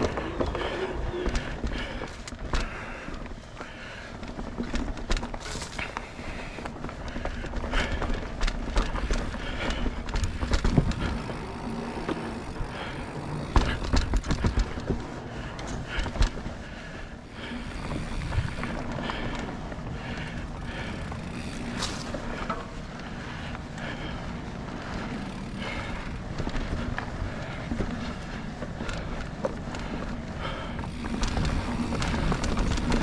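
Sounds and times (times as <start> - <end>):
bike knocks and rattles: 0.0 - 33.0
bike tyres on dirt: 0.0 - 33.0.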